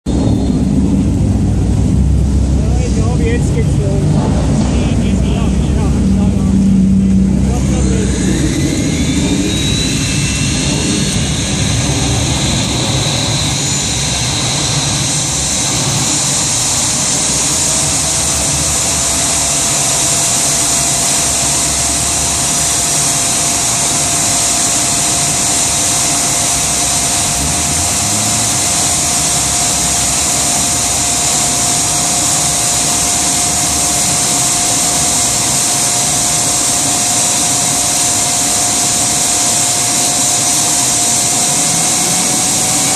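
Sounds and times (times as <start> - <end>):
gas turbine engine whine: 0.0 - 42.9
steady tone: 0.1 - 42.9.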